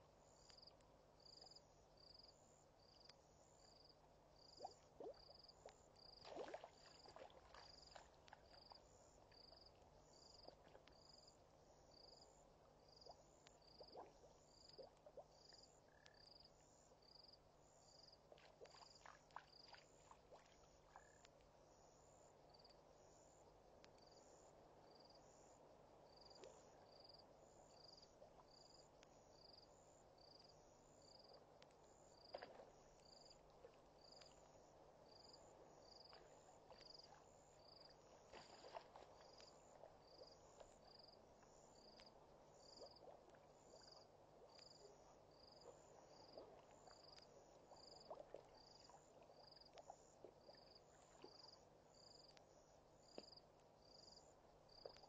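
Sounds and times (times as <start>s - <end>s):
cricket chirping: 0.0s - 55.0s
soft insect hiss: 0.0s - 55.0s.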